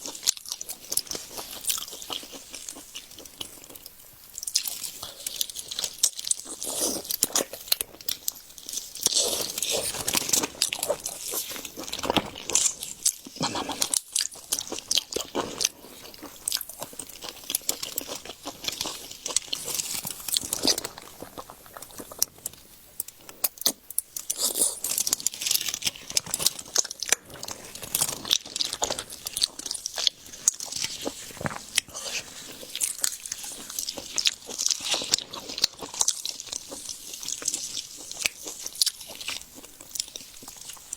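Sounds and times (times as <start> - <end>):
chewing and biting seafood: 0.0 - 40.9.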